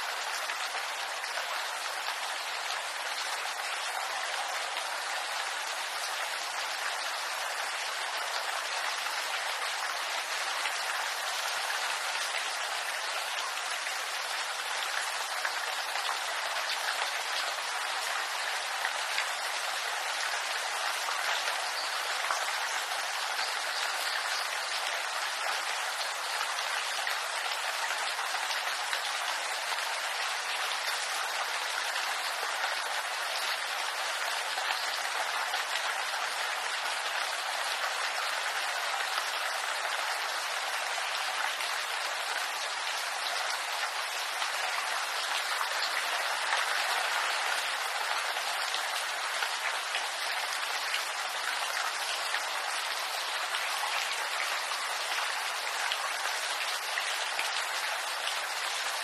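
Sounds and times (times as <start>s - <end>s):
rain on bamboo leaves: 0.0s - 59.0s.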